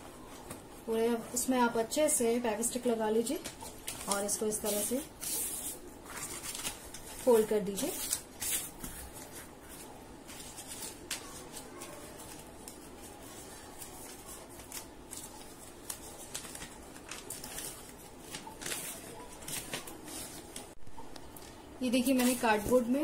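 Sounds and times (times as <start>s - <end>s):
paper rustling and crackling: 3.2s - 20.8s, 22.0s - 23.0s.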